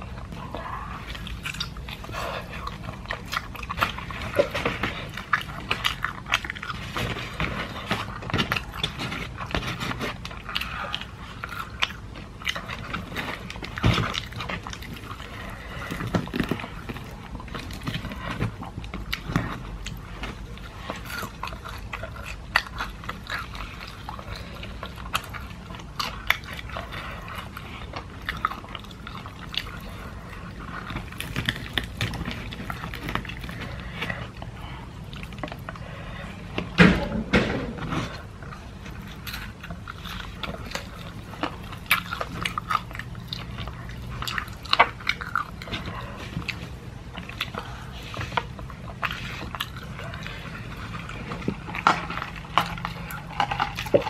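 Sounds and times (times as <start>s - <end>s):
chewing fried chicken: 0.0s - 54.0s.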